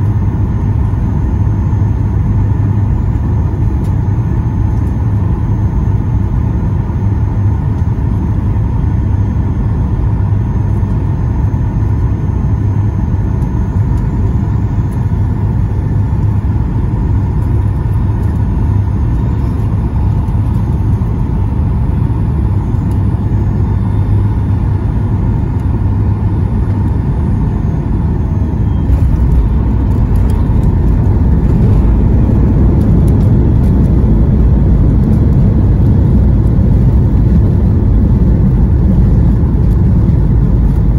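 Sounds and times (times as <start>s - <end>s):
airplane cabin rumble: 0.0s - 40.9s
jet engine whine: 0.0s - 40.9s.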